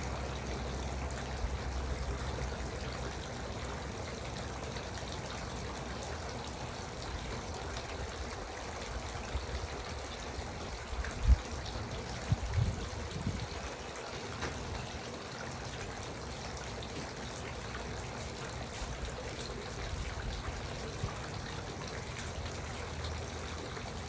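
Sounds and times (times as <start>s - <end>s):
water fountain trickling: 0.0s - 24.0s.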